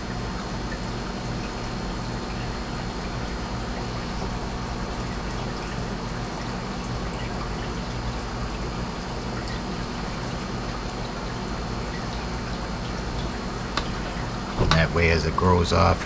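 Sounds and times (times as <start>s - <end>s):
pump low hum: 0.0s - 16.0s
water trickling in aquarium: 0.0s - 16.0s.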